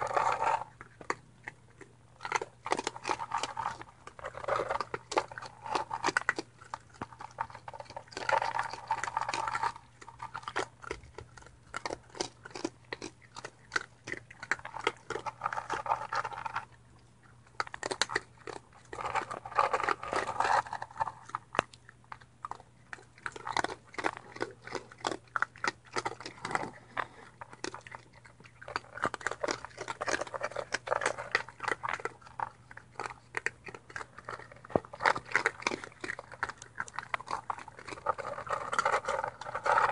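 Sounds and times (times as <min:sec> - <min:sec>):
animals crunching dry kibble: 0:00.0 - 0:39.9.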